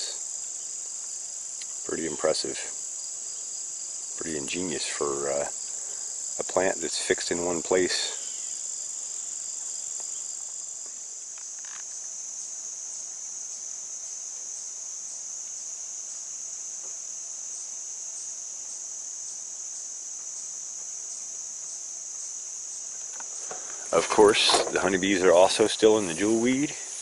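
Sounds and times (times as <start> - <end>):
crickets and insects chirping: 0.0 - 27.0.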